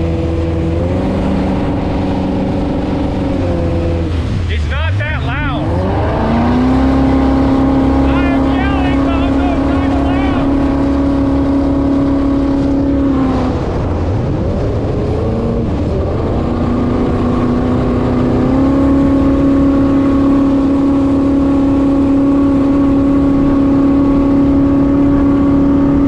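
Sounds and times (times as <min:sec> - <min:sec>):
jet boat engine running: 0:00.0 - 0:26.0.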